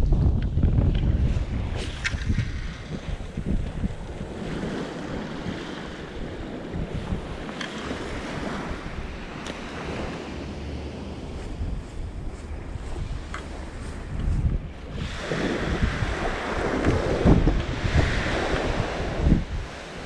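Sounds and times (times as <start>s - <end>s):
wind buffeting microphone: 0.0s - 20.0s
small waves washing onto sand: 1.2s - 20.0s.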